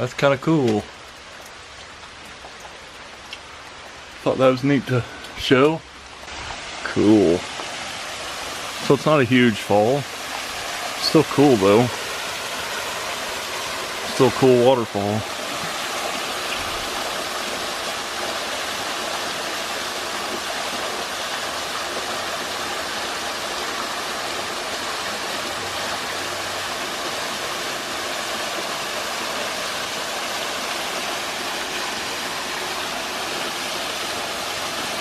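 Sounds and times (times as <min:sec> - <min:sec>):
creek water running: 0:00.0 - 0:35.0
small waterfall splashing: 0:00.0 - 0:35.0.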